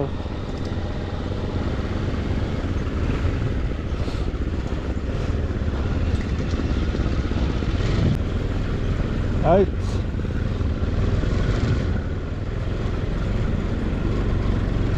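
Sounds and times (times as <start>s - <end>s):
motorcycle engine rumbling: 0.0s - 14.9s.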